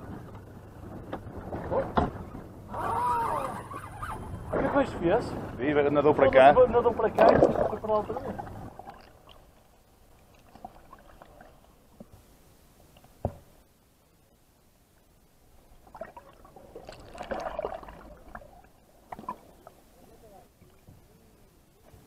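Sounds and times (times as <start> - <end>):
muffled underwater water sounds: 0.0 - 22.0.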